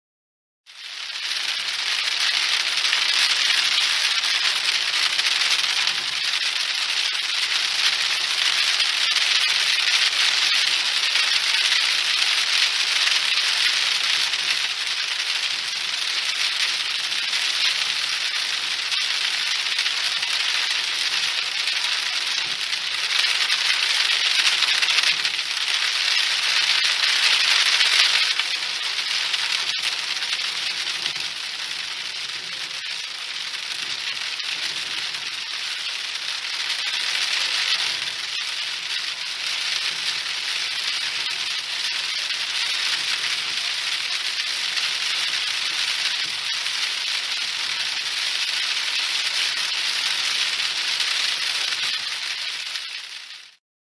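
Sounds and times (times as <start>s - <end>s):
rain pattering on car roof: 1.4s - 53.2s.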